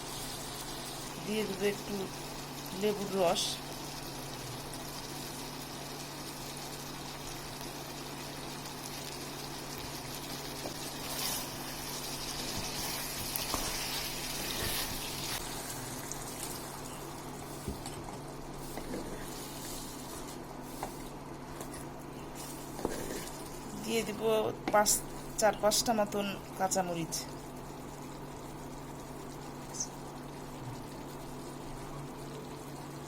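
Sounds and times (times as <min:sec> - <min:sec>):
curry sizzling in a pan: 0:00.0 - 0:24.2, 0:24.9 - 0:33.0
constant low hum: 0:00.0 - 0:33.0.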